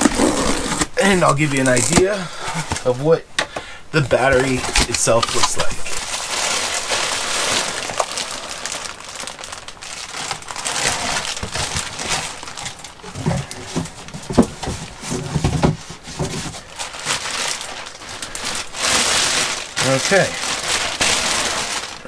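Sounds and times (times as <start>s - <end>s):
cardboard and plastic rustling: 0.0s - 3.2s, 4.0s - 22.0s.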